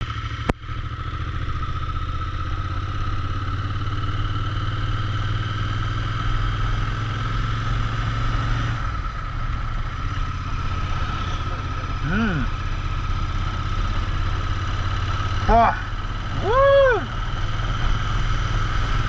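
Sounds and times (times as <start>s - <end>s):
motorcycle engine idling: 0.0s - 7.7s, 8.8s - 19.0s.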